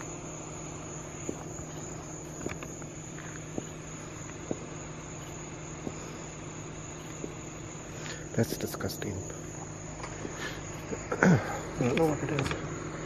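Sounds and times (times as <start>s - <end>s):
crickets trilling: 0.0s - 13.0s
low steady hum: 0.0s - 13.0s.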